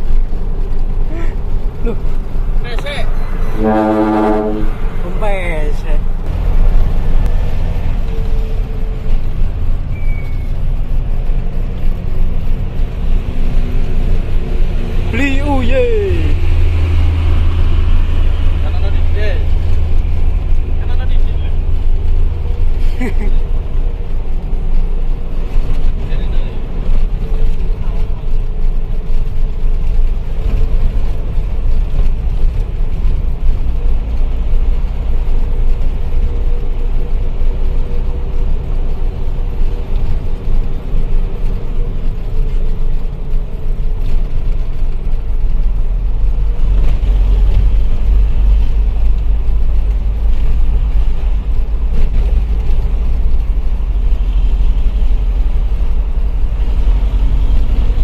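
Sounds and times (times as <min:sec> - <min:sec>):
diesel truck engine rumbling: 0:00.0 - 0:58.0.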